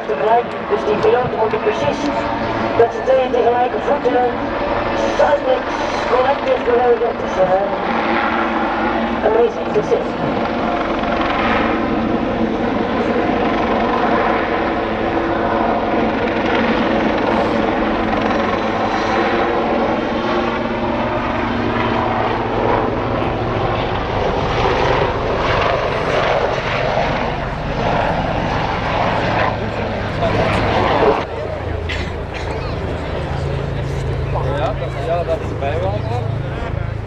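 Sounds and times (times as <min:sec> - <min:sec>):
helicopters droning: 0:00.0 - 0:37.0.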